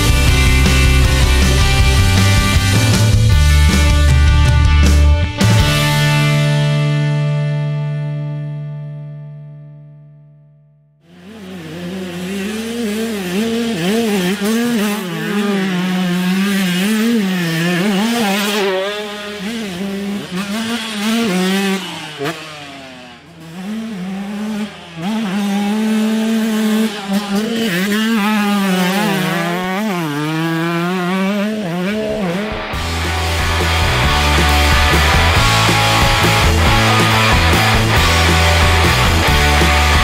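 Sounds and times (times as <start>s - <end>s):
motocross bike engine revving: 0.0s - 7.3s, 11.0s - 40.0s.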